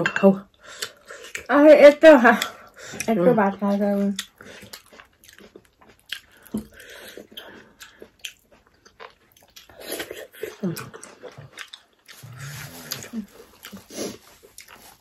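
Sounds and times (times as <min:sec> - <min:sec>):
chewing and lip-smacking: 0:02.3 - 0:15.0.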